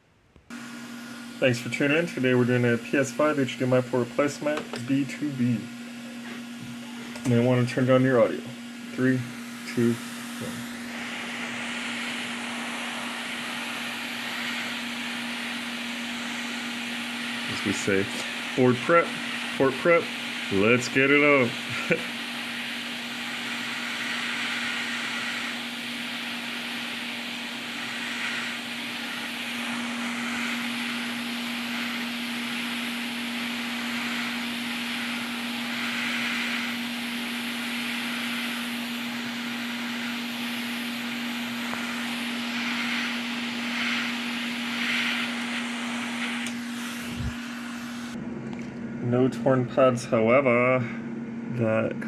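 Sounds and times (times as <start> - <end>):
hot air blower rushing: 0.0 - 51.8.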